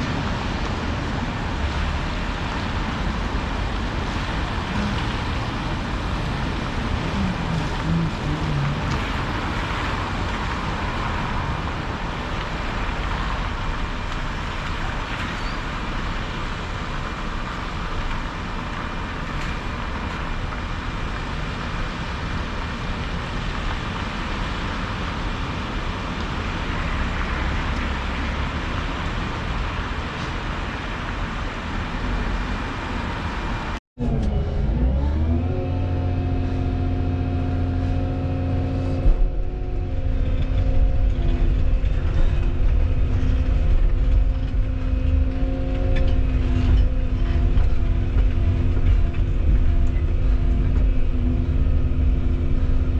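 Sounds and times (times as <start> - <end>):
excavator diesel engine droning: 0.0 - 24.8, 33.2 - 52.9.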